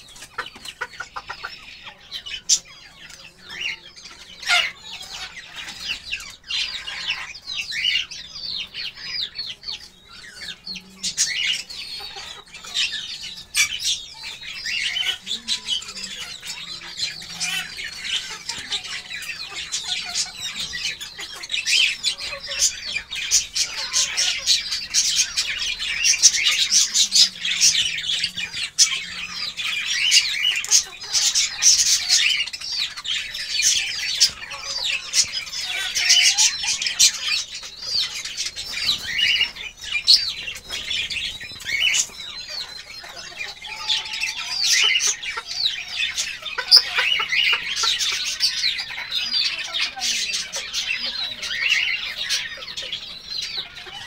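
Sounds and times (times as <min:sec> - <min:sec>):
chickens clucking: 0:00.0 - 0:54.0
high chirping bird calls: 0:00.0 - 0:54.0.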